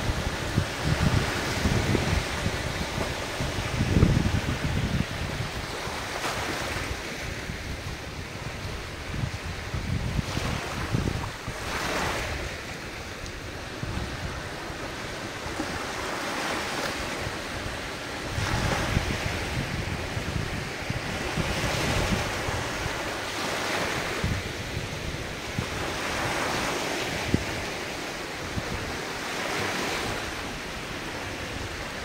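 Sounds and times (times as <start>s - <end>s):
ocean surf washing ashore: 0.0s - 32.0s
wind rumbling on microphone: 0.0s - 32.0s.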